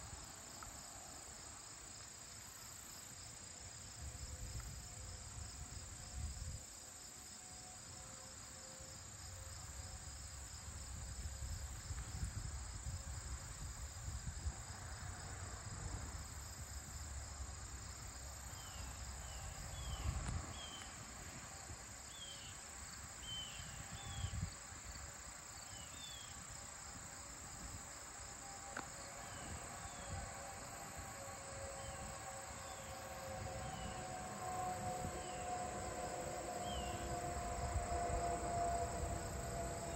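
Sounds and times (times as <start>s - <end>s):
crickets trilling: 0.0s - 39.9s
pulsing insect chirp: 0.0s - 39.9s.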